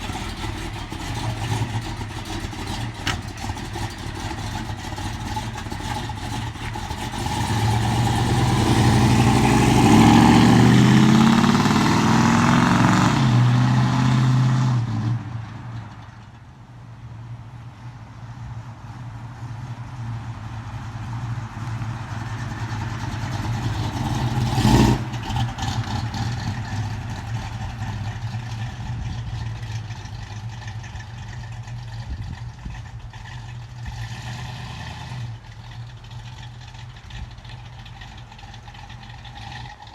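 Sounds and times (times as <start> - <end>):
car engine revving and idling: 0.0 - 16.4, 17.0 - 39.9.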